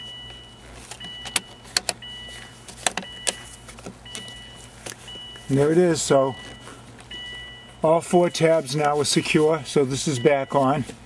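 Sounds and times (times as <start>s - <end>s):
electronic tone beeping: 0.0s - 9.5s.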